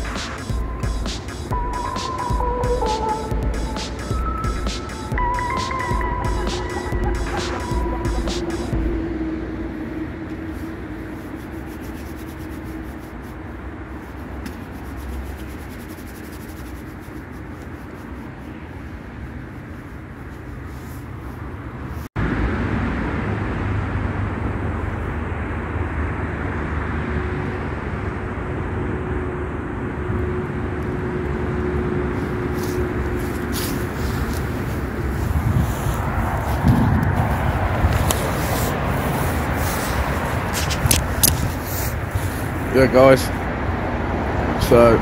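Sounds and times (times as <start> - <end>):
road traffic hum: 0.0 - 45.0.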